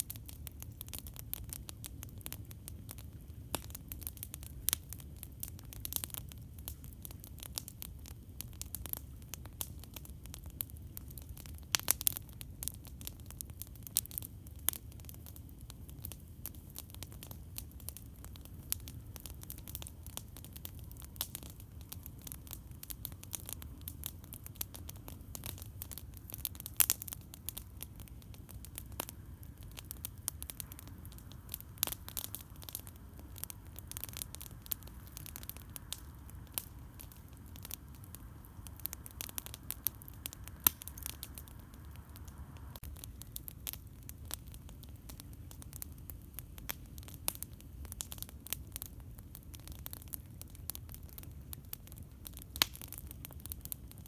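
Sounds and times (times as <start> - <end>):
campfire crackling and popping: 0.0 - 54.0
low fire rumble: 0.0 - 54.0.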